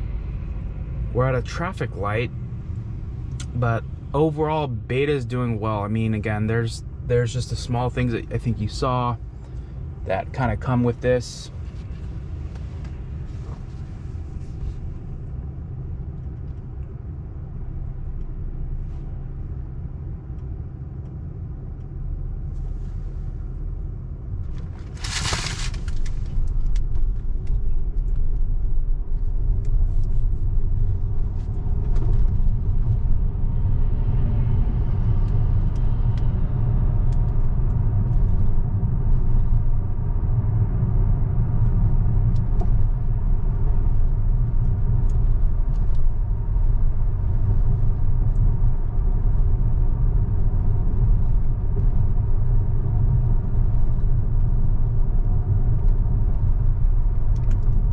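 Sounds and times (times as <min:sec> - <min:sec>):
road and tyre rumble in car cabin: 0:00.0 - 0:57.9.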